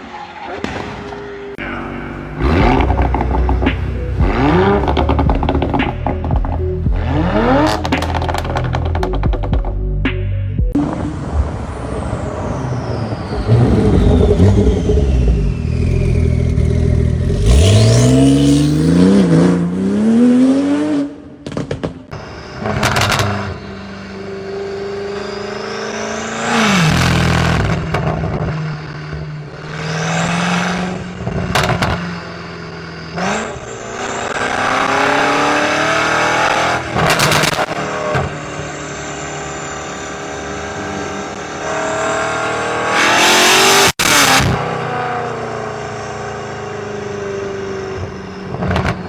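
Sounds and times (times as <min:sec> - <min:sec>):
performance car engines revving: 0:00.0 - 0:09.4, 0:10.7 - 0:49.0.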